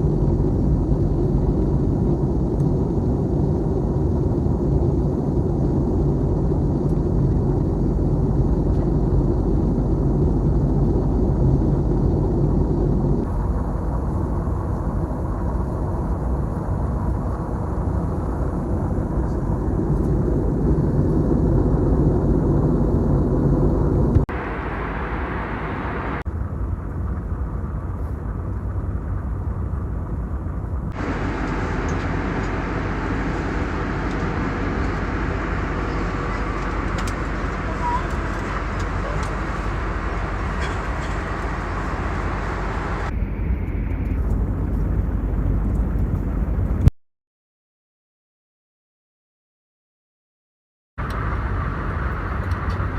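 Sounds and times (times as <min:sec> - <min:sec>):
airliner engines roaring in cabin: 0:00.0 - 0:46.9, 0:51.0 - 0:52.9.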